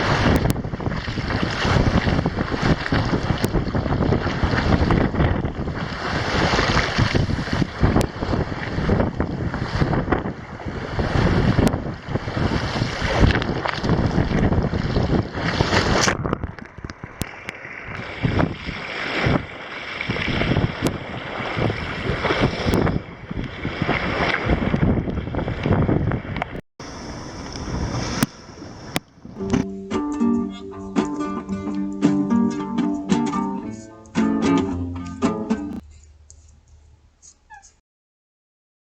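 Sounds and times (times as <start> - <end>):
wind buffeting microphone: 0.0 - 33.4
water rushing along boat hull: 0.0 - 33.5.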